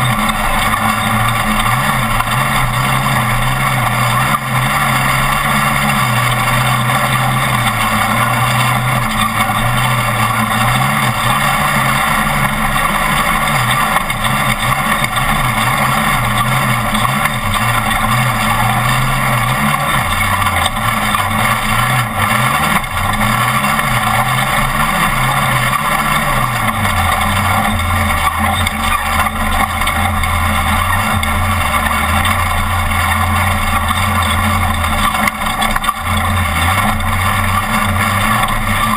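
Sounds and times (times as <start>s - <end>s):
road and wind noise: 0.0s - 38.9s
truck engine running hard: 0.0s - 38.9s.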